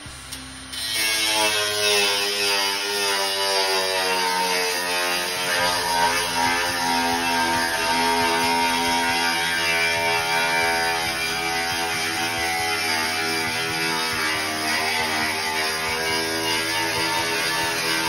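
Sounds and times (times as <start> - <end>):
angle grinder grinding metal: 0.0 - 18.0.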